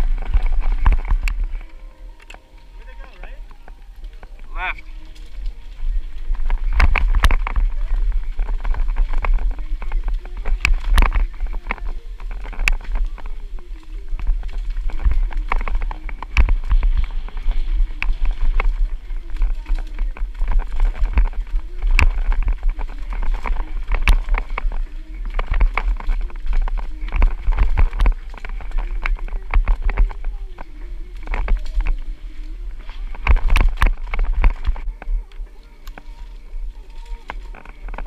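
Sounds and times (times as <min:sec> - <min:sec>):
low wind rumble: 0:00.0 - 0:38.0
mountain bike rattling over rocks: 0:00.0 - 0:38.0.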